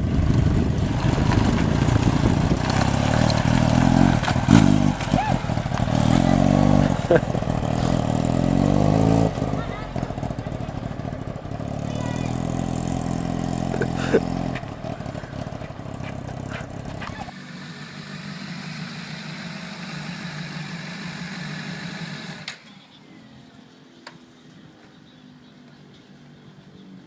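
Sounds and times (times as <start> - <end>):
motorcycle engines running: 0.0 - 27.0.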